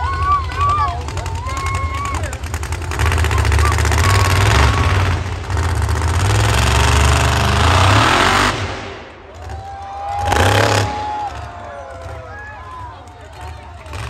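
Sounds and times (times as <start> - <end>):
truck engine revving hard: 0.0 - 14.0.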